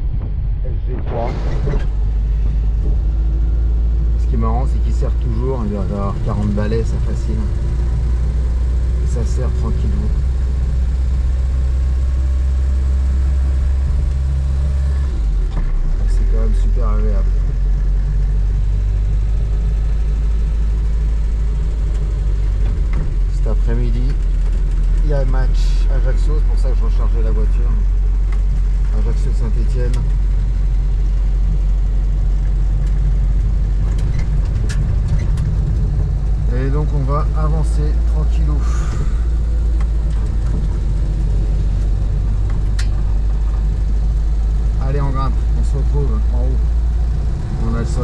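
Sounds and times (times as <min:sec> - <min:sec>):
car engine droning: 0:00.0 - 0:48.0
road noise: 0:00.0 - 0:48.0.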